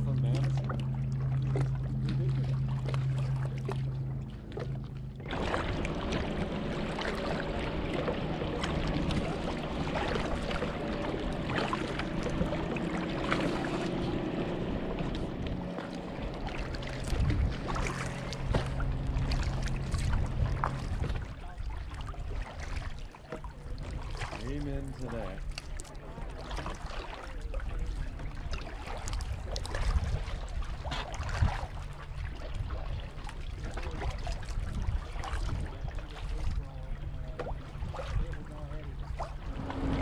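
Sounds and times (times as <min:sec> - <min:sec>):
paddle splashing in water: 0:00.0 - 0:40.0
water lapping along hull: 0:00.0 - 0:40.0.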